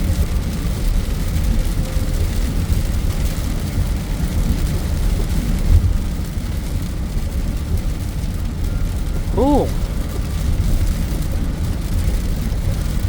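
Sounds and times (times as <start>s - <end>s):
constant low rumble: 0.0s - 13.0s
heavy rain falling: 0.0s - 13.0s.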